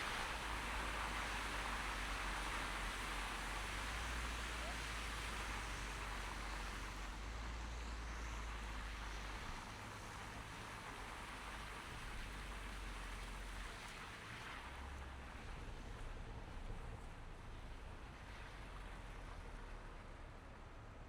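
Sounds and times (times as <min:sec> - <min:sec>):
low engine and road rumble: 0:00.0 - 0:21.0.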